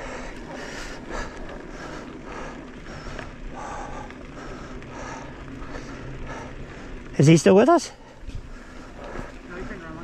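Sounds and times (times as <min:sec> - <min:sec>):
footsteps on dirt trail: 0:00.0 - 0:10.0
low background rumble: 0:00.0 - 0:10.0.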